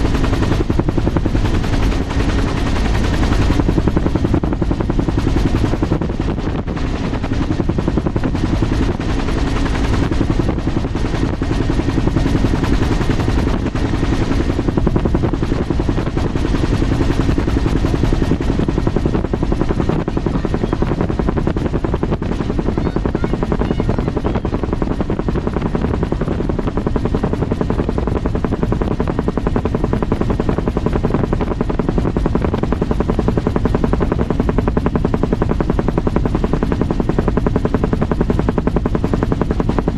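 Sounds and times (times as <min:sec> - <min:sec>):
aircraft engine pulsing: 0:00.0 - 0:39.9.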